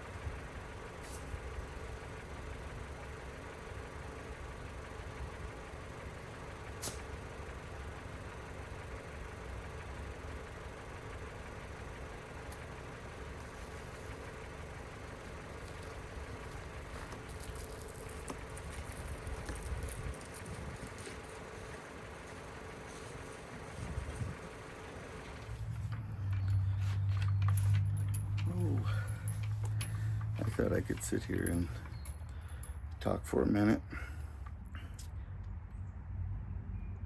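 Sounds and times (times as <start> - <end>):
engine rumbling steadily: 0.0 - 37.0.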